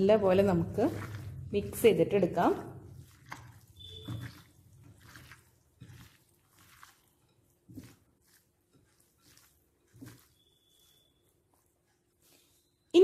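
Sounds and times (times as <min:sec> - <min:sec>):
wet squishing of food mixed by hand: 0:00.0 - 0:13.0.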